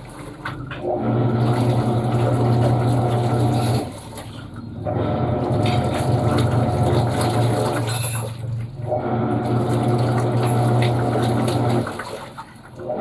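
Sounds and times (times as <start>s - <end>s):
washing machine motor humming: 0.0s - 13.0s
water sloshing: 0.0s - 13.0s.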